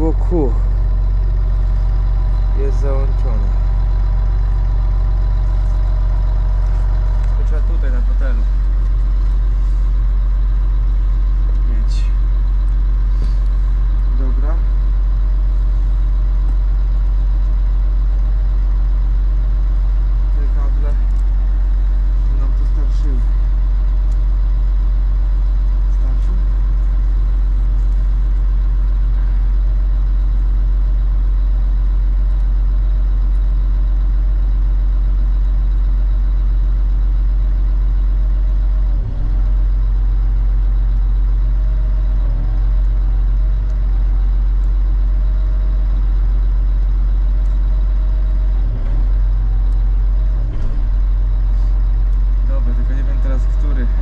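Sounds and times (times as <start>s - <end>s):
heavy engine idling: 0.0s - 54.0s.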